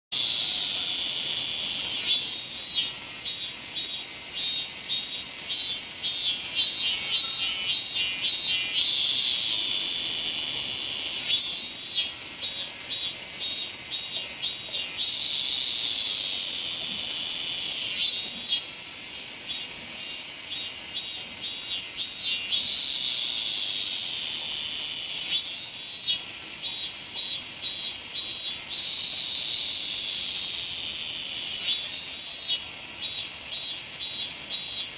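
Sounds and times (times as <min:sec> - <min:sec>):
cicada pulsed song: 0:00.1 - 0:34.9
high-pitched insect buzz: 0:00.2 - 0:34.9.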